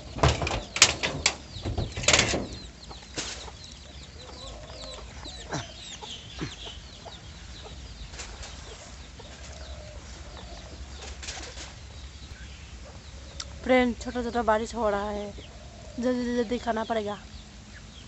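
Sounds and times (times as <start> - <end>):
chickens clucking: 0.0 - 18.0
small birds chirping: 0.0 - 18.0.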